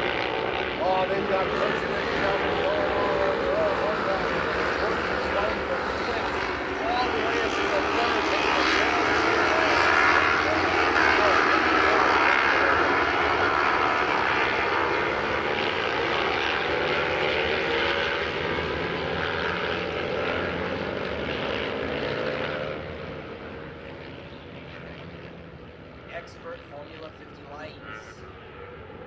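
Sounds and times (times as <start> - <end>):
racing motorcycle engines droning: 0.0 - 29.0.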